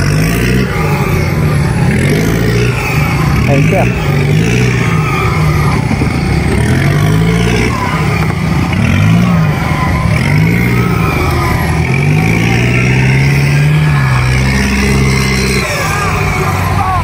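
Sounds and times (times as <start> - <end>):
diesel engine revving under load: 0.0 - 17.0.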